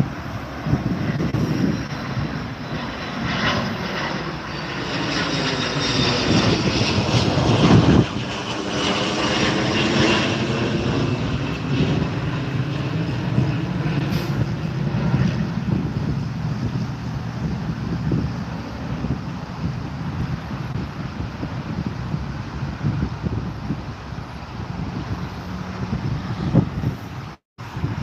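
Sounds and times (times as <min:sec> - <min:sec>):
jet engine roar with whine: 0:00.0 - 0:28.0.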